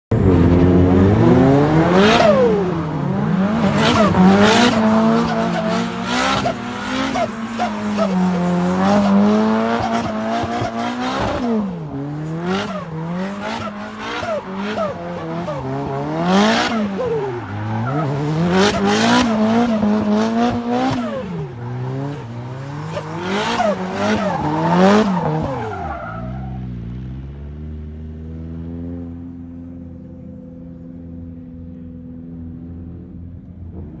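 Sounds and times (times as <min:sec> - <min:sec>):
car engine revving: 0:00.1 - 0:30.2.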